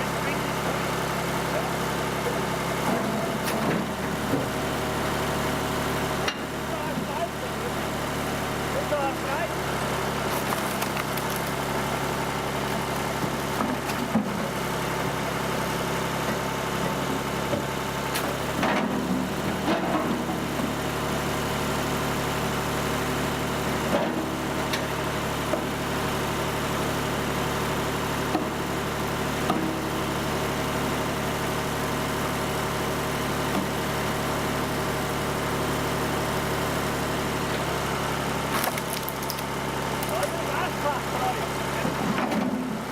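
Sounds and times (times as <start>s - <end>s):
log splitter engine droning: 0.0s - 42.9s.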